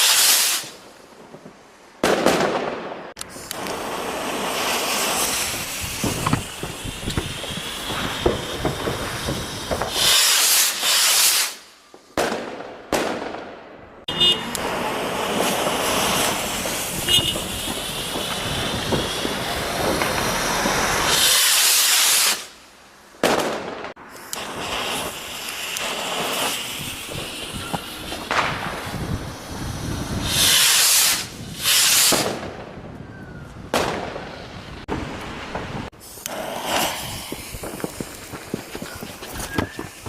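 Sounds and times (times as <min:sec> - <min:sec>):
fireworks hissing and crackling: 0:00.0 - 0:13.4, 0:14.1 - 0:40.0
fireworks rushing bursts: 0:00.0 - 0:33.0, 0:33.6 - 0:40.0
sharp fireworks cracks: 0:00.0 - 0:40.0.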